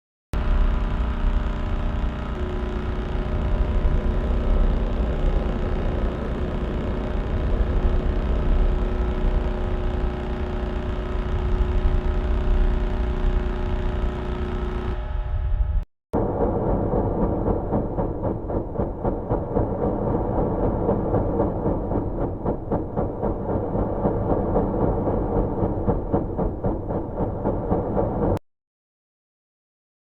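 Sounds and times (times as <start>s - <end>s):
deep rumble: 0.4s - 28.4s
dense steady buzz: 0.4s - 28.4s
steady tones: 0.4s - 28.4s.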